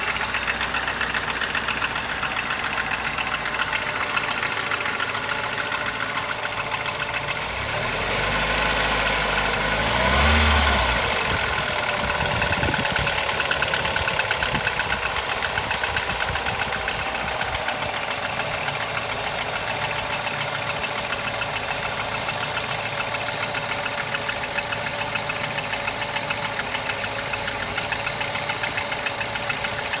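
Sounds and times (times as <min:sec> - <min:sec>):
engine idling with rhythmic knock: 0:00.0 - 0:30.0.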